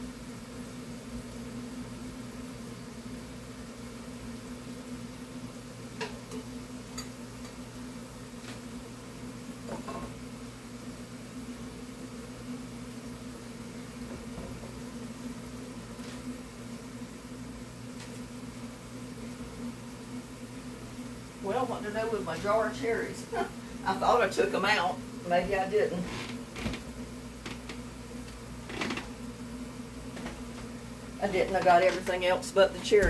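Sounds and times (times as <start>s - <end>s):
fan motor humming: 0.0s - 33.0s.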